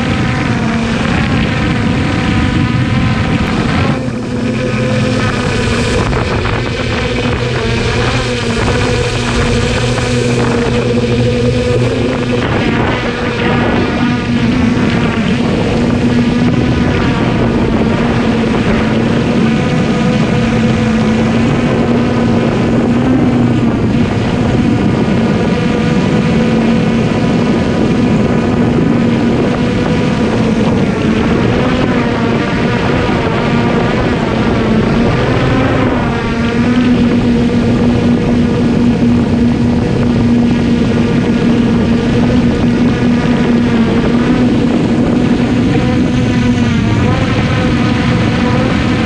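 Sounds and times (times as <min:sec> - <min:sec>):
drone propellers humming: 0:00.0 - 0:49.0.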